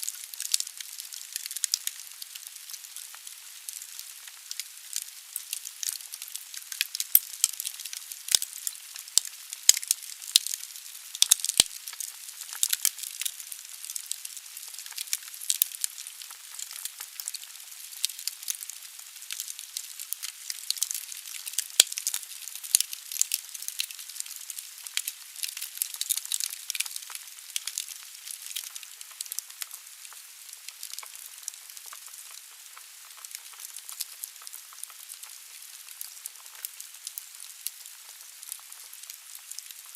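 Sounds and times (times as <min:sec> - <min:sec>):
wood fire crackling and popping: 0:00.0 - 0:39.8.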